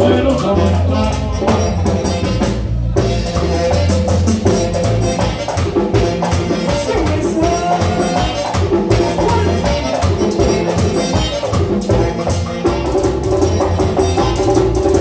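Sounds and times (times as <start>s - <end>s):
accordion: 0.0s - 15.0s
electric bass: 0.0s - 15.0s
tambora drum rhythm: 0.0s - 15.0s.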